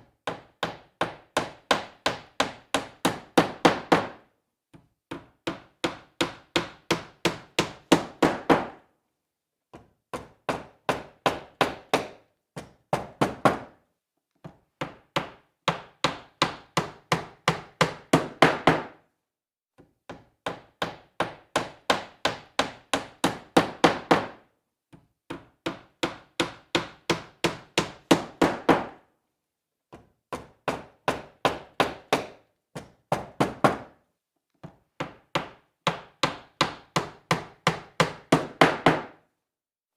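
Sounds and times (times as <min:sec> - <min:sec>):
hammer driving nail into wood: 0:00.2 - 0:08.8, 0:09.7 - 0:13.8, 0:14.4 - 0:19.0, 0:20.1 - 0:24.5, 0:25.3 - 0:29.0, 0:29.9 - 0:34.0, 0:34.6 - 0:39.3.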